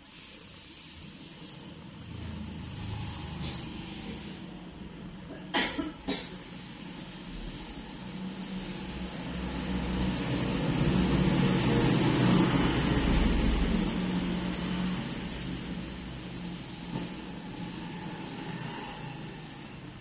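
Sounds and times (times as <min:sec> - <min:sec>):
vehicle engine passing by: 0:01.2 - 0:04.8, 0:07.5 - 0:20.0.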